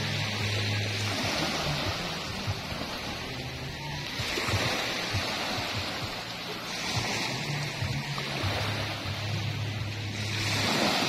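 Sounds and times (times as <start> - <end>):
small waves washing onto beach: 0.0 - 11.0.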